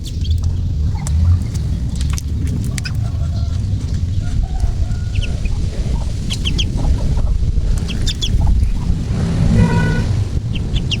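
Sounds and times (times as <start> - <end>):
duckling peeping: 0.0 - 11.0
steady low rumble: 0.0 - 11.0.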